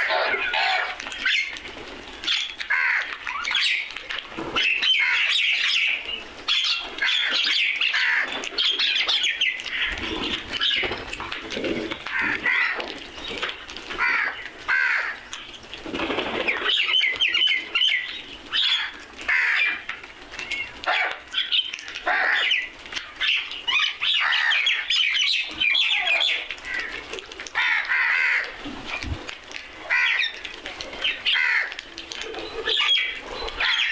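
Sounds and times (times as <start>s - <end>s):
crows calling: 0.0s - 1.6s, 2.2s - 3.9s, 4.6s - 13.2s, 13.9s - 15.5s, 16.5s - 28.6s, 29.8s - 33.9s
birds chirping: 0.0s - 33.9s.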